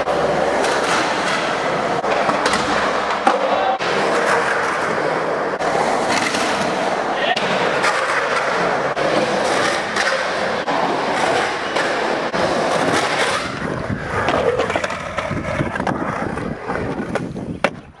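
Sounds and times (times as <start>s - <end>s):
skateboard clacks: 0.0s - 18.0s
skateboard wheels rolling: 0.0s - 18.0s.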